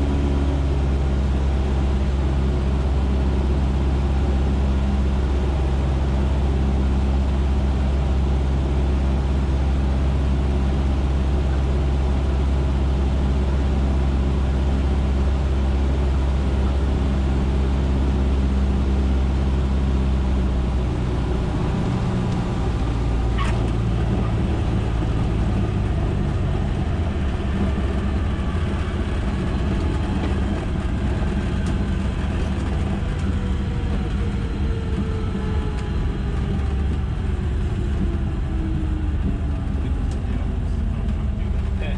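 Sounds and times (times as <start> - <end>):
light aircraft engine and propeller: 0.0 - 41.9.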